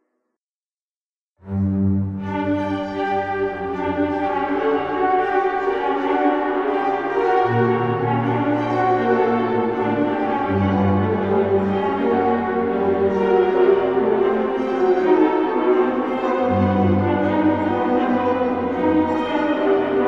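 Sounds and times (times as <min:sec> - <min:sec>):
ghostly orchestral music: 0:01.5 - 0:20.0.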